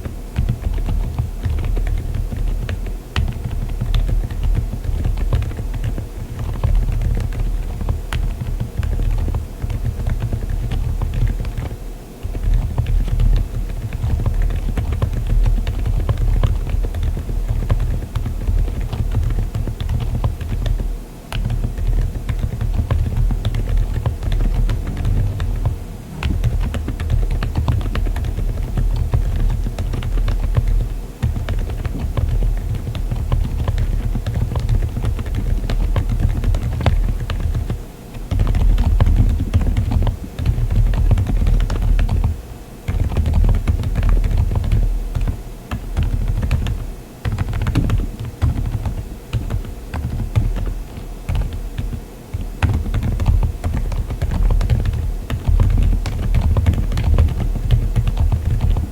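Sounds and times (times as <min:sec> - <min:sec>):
fast typing on keyboard: 0:00.0 - 0:58.9.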